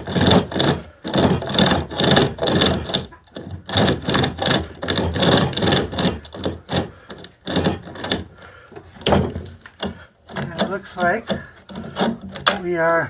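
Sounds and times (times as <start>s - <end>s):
hand chainsaw rasping through timber: 0.0s - 13.0s.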